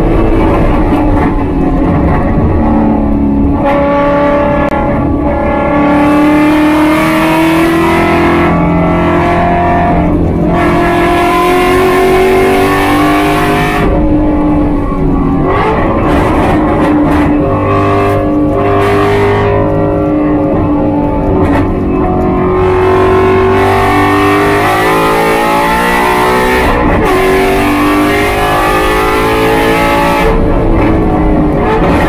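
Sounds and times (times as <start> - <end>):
gear change: 0.0 - 32.0
race car engine revving: 0.0 - 32.0.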